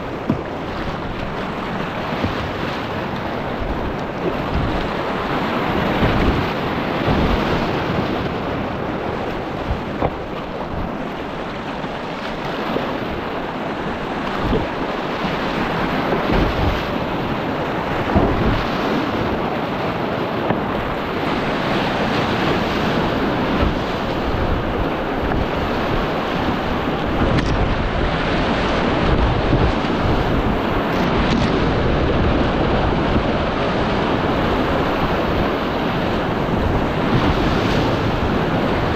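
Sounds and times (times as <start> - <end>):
rapids rushing and splashing: 0.0 - 38.9
wind buffeting microphone: 0.0 - 38.9.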